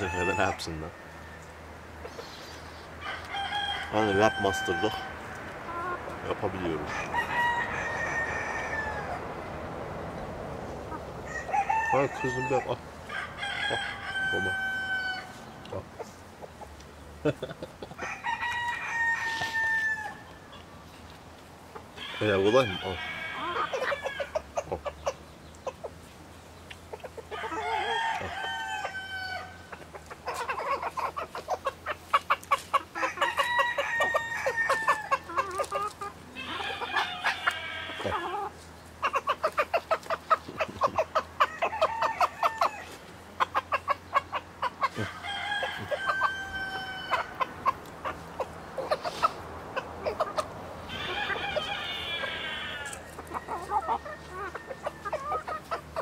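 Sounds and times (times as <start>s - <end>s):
hens clucking: 0.0s - 9.5s, 10.2s - 56.0s
roosters crowing: 0.0s - 10.0s, 10.8s - 15.9s, 17.2s - 20.5s, 21.7s - 25.3s, 27.1s - 56.0s.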